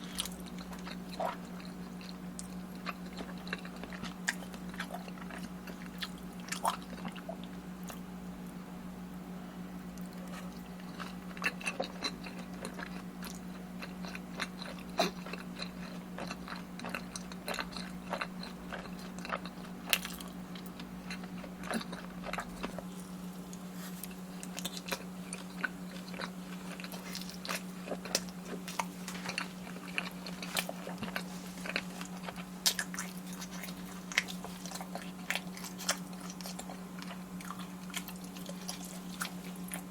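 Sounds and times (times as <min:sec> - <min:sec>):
person chewing crunchy food: 0:00.0 - 0:08.1, 0:09.9 - 0:39.9
steady low hum: 0:00.0 - 0:39.9.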